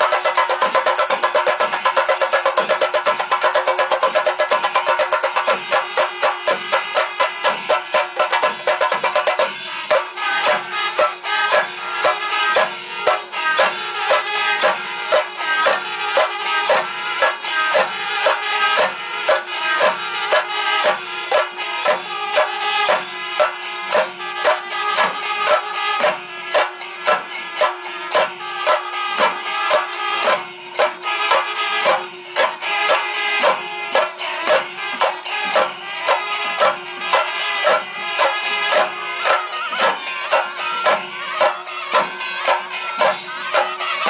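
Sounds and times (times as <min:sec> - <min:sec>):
cymbals ringing: 0:00.0 - 0:44.0
drums beaten with sticks: 0:00.0 - 0:44.0
steady held tone: 0:05.0 - 0:44.0.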